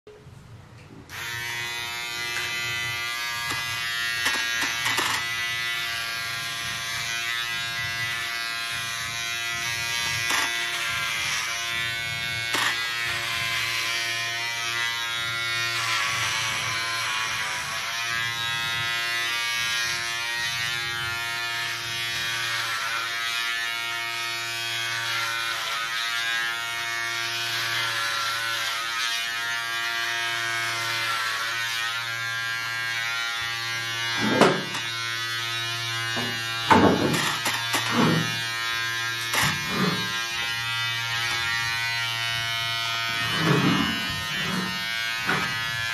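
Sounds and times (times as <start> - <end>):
electric hair clipper buzzing: 1.1 - 45.9.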